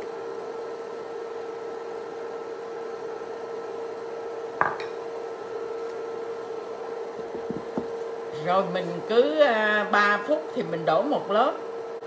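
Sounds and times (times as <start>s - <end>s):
cooktop hum and hiss: 0.0s - 12.0s.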